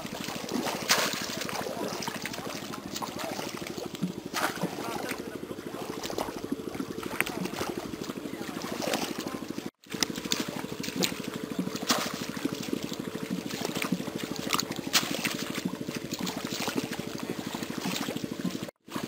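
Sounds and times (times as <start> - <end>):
fast low pulsing: 0.0 - 18.7
feet splashing through muddy water: 0.0 - 19.0.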